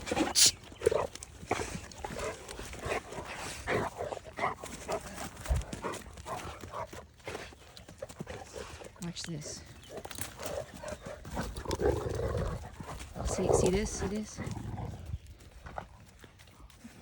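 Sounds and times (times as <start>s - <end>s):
dogs growling and grunting: 0.0s - 17.0s
dogs scuffling: 0.0s - 17.0s.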